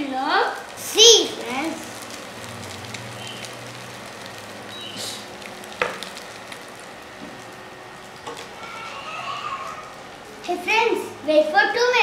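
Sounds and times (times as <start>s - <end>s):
potatoes sizzling in oil: 0.0s - 12.0s.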